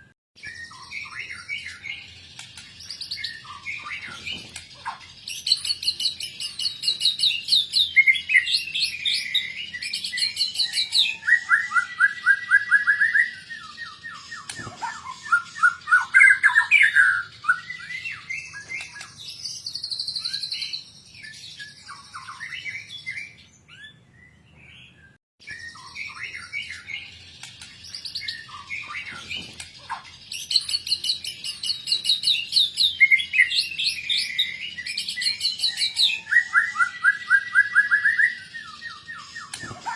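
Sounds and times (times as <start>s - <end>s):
songbird singing trills and whistles: 0.4s - 39.9s.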